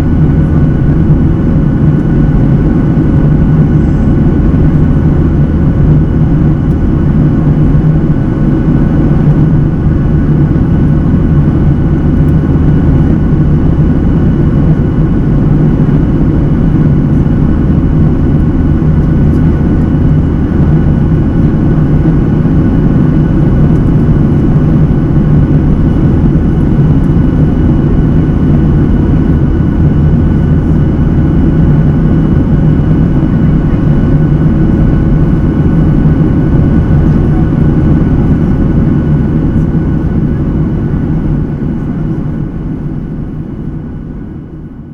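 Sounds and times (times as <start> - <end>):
airplane cabin rumble and hum: 0.0 - 44.9.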